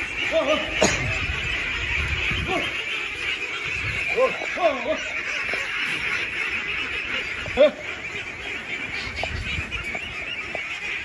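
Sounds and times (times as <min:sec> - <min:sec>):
flock of ducks quacking: 0:00.0 - 0:11.0
loud duck call: 0:00.0 - 0:11.0.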